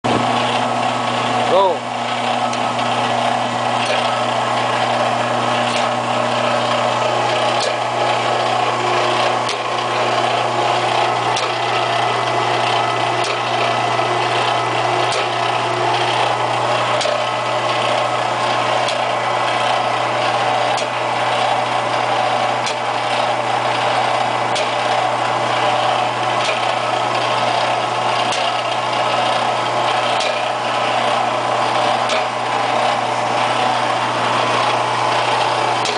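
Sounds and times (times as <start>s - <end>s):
hydraulic pump humming: 0.0s - 35.9s.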